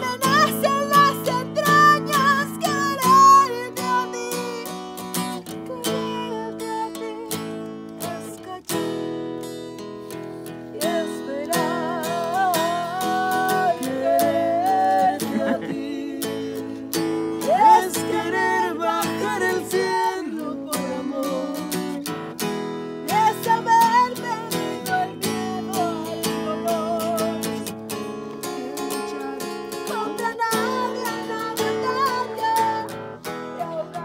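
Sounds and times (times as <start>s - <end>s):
person singing: 0.0s - 9.1s, 10.5s - 22.4s, 23.0s - 34.0s
acoustic guitar strumming: 0.0s - 34.0s.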